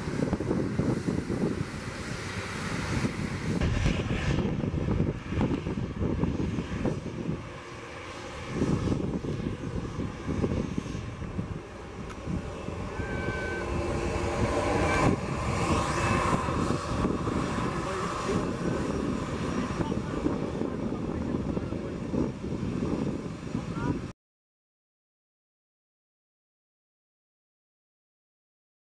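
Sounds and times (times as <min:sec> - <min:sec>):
jet engines at taxi power: 0:00.0 - 0:24.1.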